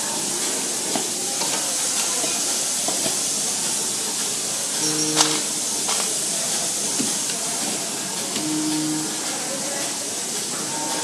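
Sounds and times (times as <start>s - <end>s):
machine hissing: 0.0s - 11.0s.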